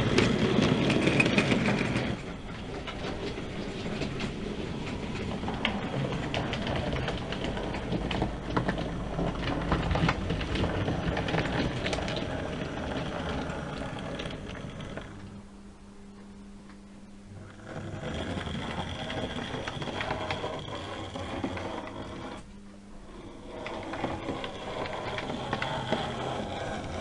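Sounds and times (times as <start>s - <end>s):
train wheels clicking over rails: 0.0s - 15.3s, 17.4s - 22.4s, 23.1s - 27.0s
low train hum: 0.0s - 27.0s.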